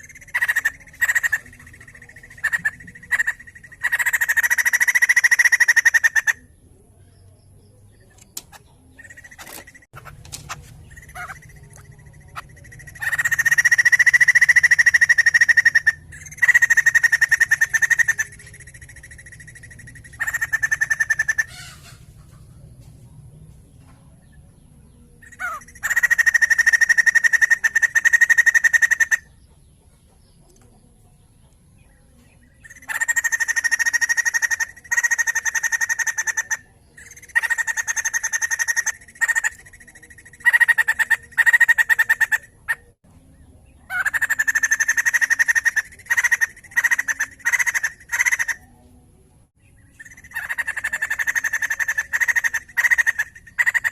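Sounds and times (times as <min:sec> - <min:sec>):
laughingthrush rapid chattering song: 0:00.0 - 0:06.5, 0:08.4 - 0:22.7, 0:25.2 - 0:30.7, 0:32.6 - 0:43.0, 0:43.9 - 0:48.7, 0:50.0 - 0:53.9.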